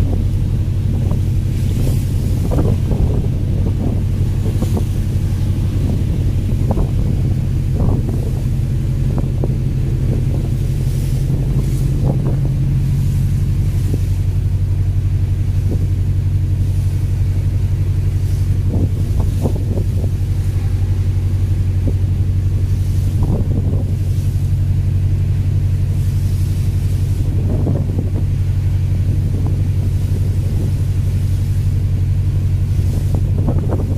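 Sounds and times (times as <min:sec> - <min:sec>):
boat engine droning: 0:00.0 - 0:33.9
water rushing along hull: 0:00.0 - 0:33.9
wind on microphone: 0:00.0 - 0:33.9.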